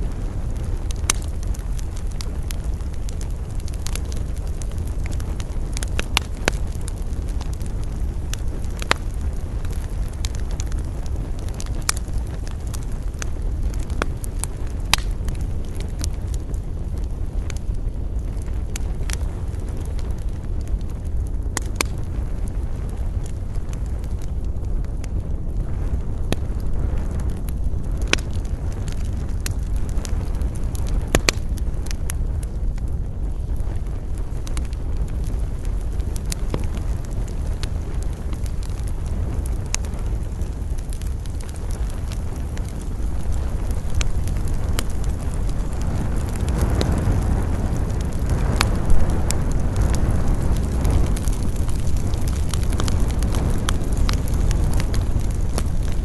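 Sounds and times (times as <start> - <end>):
campfire crackling and popping: 0.0 - 56.0
low rumble of wind: 0.0 - 56.0.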